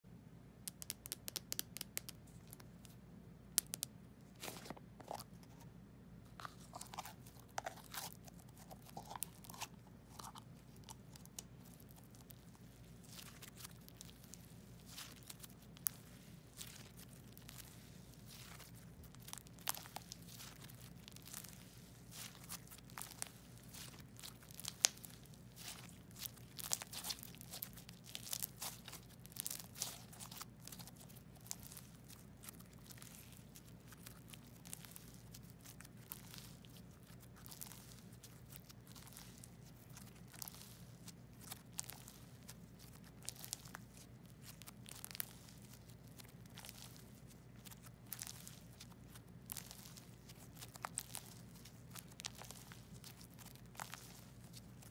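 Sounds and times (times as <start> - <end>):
slime crackling and popping: 6.4 - 54.9.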